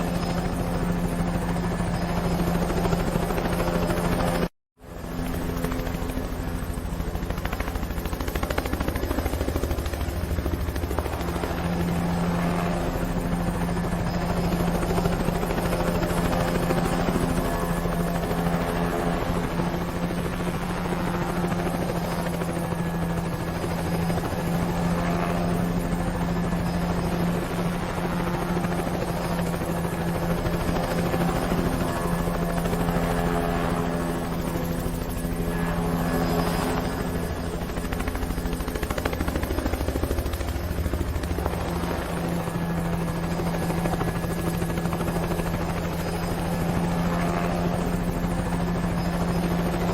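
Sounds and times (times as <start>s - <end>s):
helicopter rotor beat: 0.0s - 49.9s.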